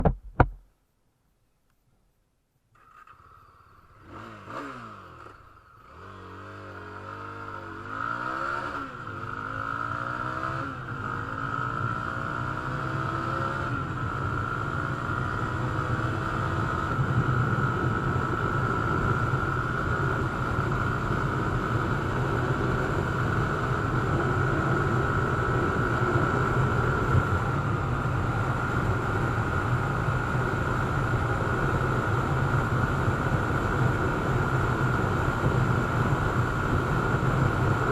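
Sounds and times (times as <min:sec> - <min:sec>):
motorcycle engine accelerating: 0:02.7 - 0:37.9.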